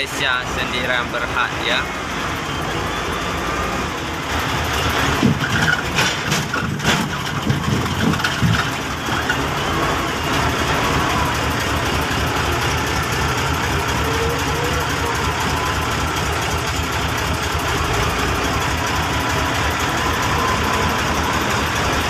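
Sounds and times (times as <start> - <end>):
heavy vehicle engine running: 0.0 - 22.0
knocks and clatters: 4.3 - 22.0.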